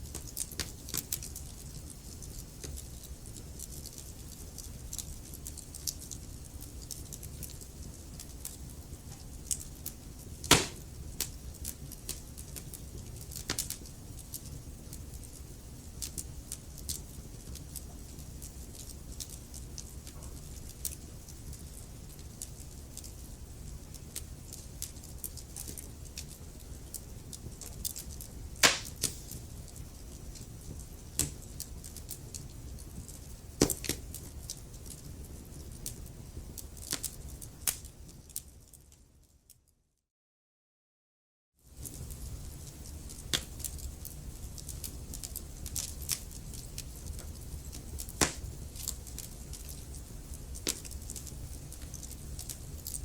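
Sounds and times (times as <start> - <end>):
burning wood popping: 0.0 - 38.4, 41.8 - 53.0
low rumble of flames: 0.0 - 39.1, 41.8 - 53.0
wood fire crackling: 0.0 - 39.3, 41.7 - 53.0.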